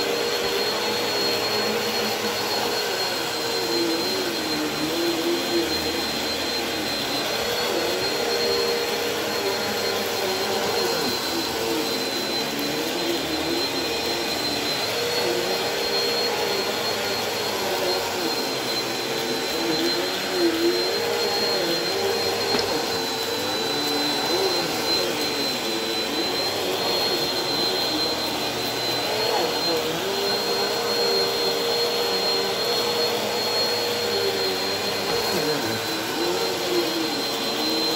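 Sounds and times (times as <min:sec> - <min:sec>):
vacuum cleaner on rug: 0:00.0 - 0:37.9.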